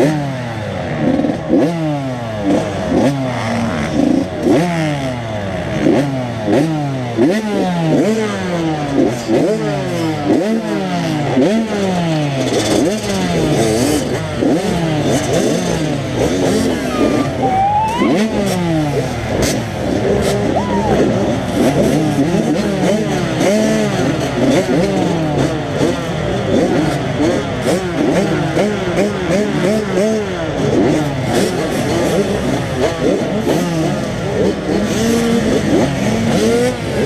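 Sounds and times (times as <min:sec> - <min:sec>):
motocross bikes revving: 0:00.0 - 0:37.0.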